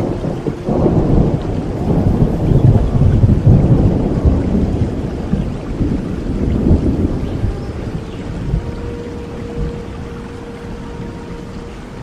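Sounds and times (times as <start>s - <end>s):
steady rain: 0.0s - 12.0s
thunder rumbling: 0.0s - 12.0s.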